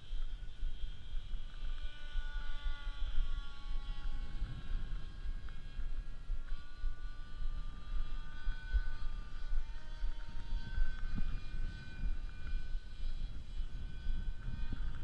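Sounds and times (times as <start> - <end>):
model plane motor whining: 0.0 - 15.0
wind rumble on microphone: 0.0 - 15.0.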